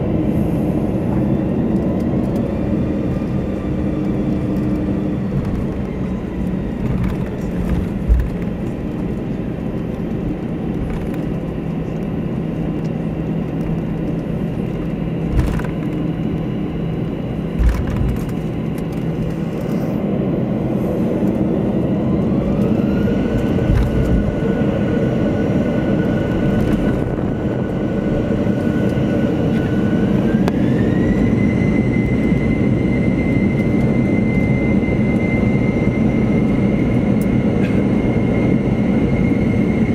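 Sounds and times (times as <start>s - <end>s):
jet engines spooling up: 0.0s - 39.9s
rising fan whine: 0.0s - 39.9s.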